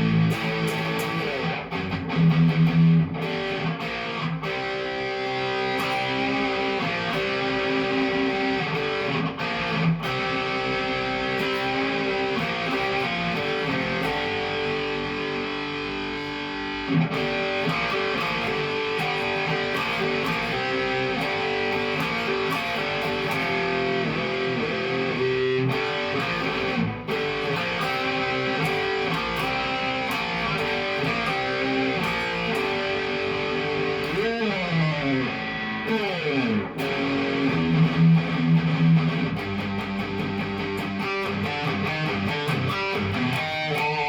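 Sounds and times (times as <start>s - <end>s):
electric guitar lead notes with bends: 0.0s - 44.0s.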